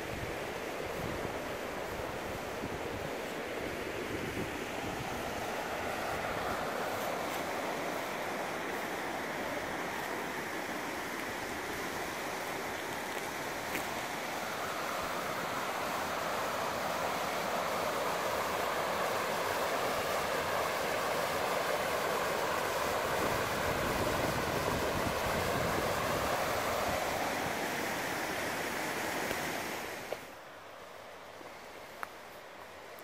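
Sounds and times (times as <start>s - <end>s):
river rapids rushing: 0.0s - 31.0s.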